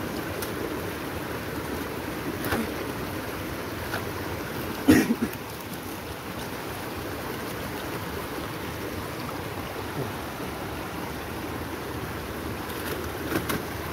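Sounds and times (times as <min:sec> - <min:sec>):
fast-flowing stream rushing: 0:00.0 - 0:13.9.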